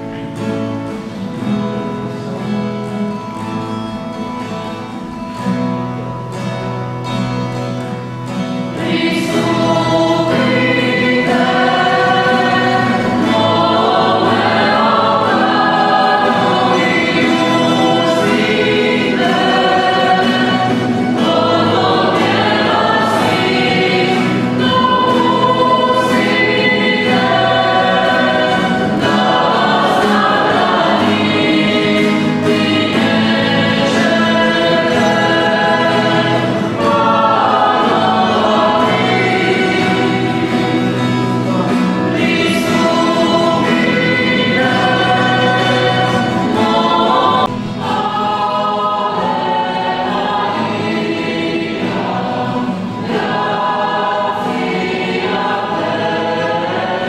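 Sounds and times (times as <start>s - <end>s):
choir singing a hymn: 6.4s - 57.0s.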